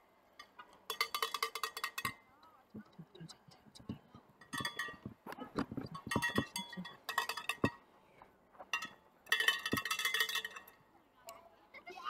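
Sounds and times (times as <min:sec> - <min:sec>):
cowbells clanging: 0:00.0 - 0:07.8, 0:08.7 - 0:10.8.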